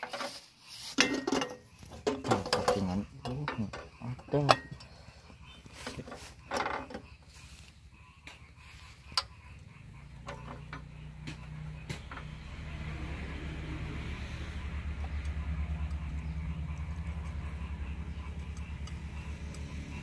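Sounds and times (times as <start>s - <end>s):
low pulsing engine hum: 2.2s - 20.0s.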